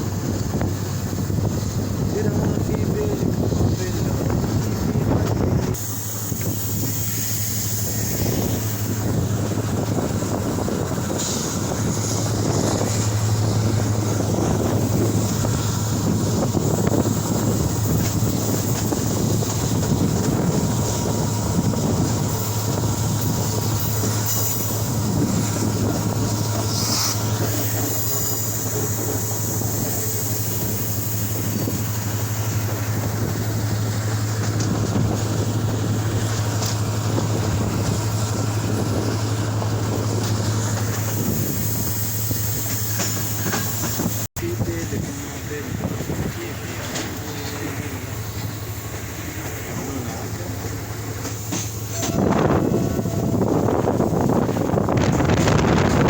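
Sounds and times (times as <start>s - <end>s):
moving vehicle rumble: 0.0s - 56.0s.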